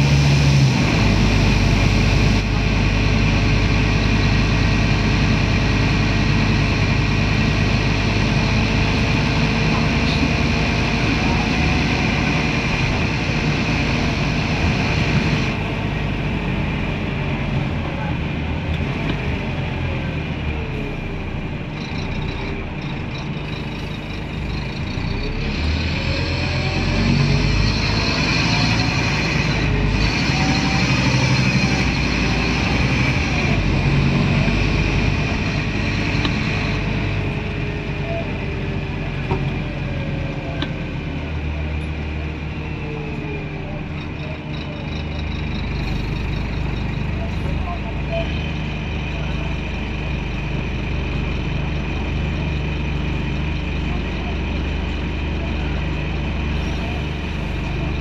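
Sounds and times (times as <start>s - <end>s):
bus diesel engine running: 0.0s - 58.0s
road and tyre noise: 0.0s - 58.0s.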